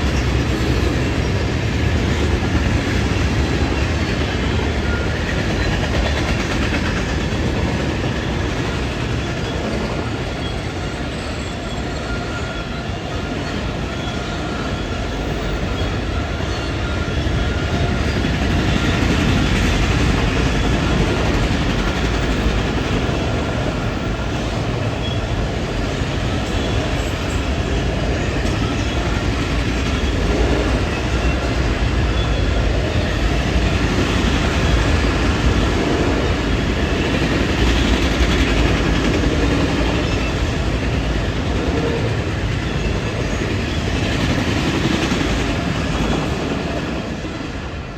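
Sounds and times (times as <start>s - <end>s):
train running on track: 0.0s - 47.9s.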